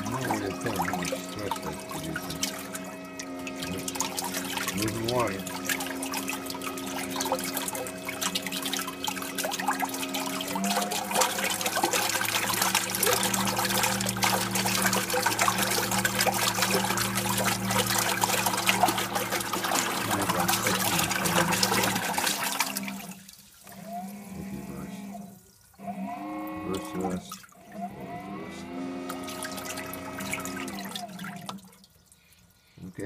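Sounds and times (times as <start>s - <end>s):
thruster motor humming: 0.0s - 23.2s, 23.8s - 31.2s
water splashing and churning: 0.0s - 32.4s.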